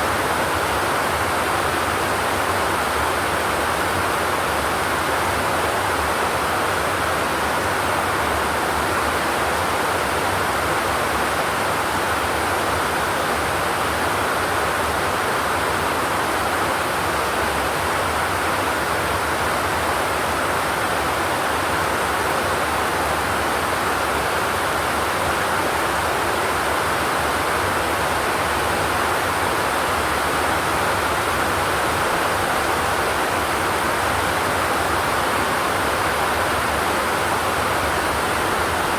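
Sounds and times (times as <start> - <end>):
rain on a metal roof: 0.0 - 38.9.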